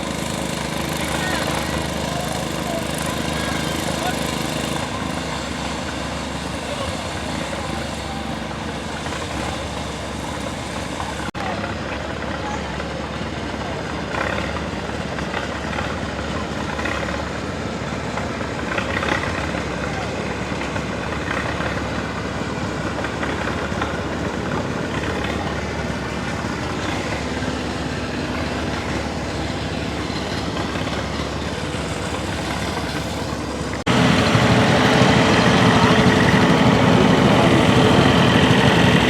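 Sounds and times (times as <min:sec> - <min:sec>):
engine running: 0:00.0 - 0:39.0
voices talking: 0:00.0 - 0:39.0.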